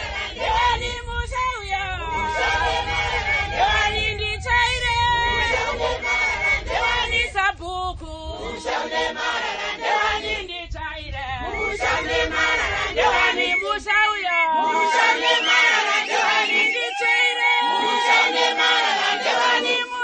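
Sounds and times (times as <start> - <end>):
group of women singing: 0.0 - 7.6, 8.2 - 20.0.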